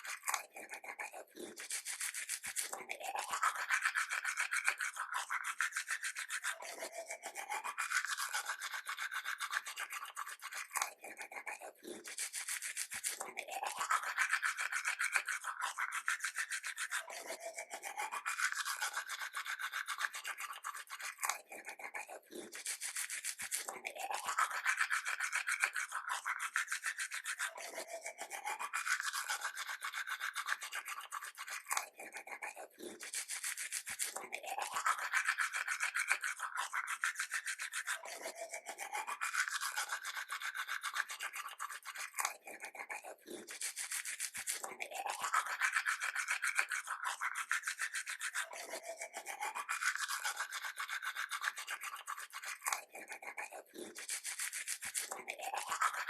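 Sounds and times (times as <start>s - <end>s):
toothbrush scrubbing teeth: 0.0s - 56.0s.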